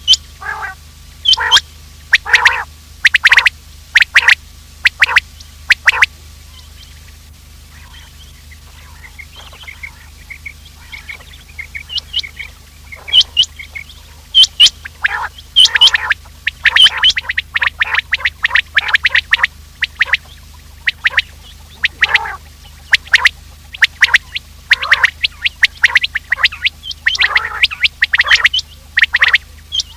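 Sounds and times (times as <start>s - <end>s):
quail calling: 0.0s - 29.9s.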